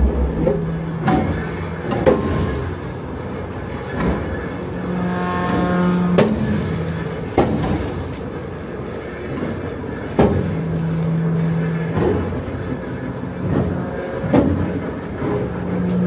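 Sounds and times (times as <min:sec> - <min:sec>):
constant mechanical noise: 0:00.0 - 0:16.0
machinery low hum: 0:00.0 - 0:16.0.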